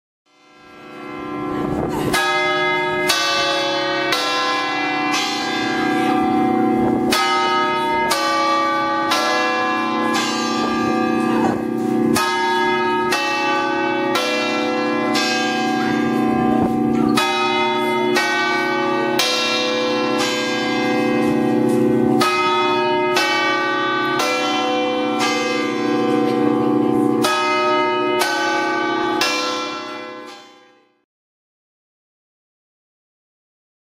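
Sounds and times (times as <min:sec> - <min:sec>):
bells ringing: 0:00.3 - 0:31.0.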